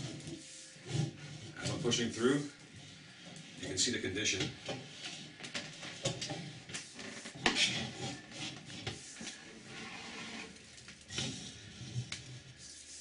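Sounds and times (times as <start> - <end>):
cable scraping in drain: 0.0 - 13.0.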